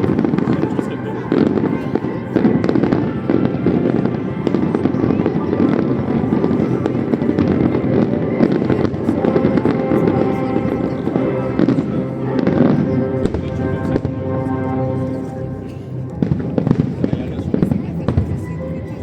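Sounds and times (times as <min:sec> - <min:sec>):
fireworks bangs and crackling: 0:00.0 - 0:14.9, 0:16.1 - 0:18.9
music playing: 0:00.0 - 0:19.0.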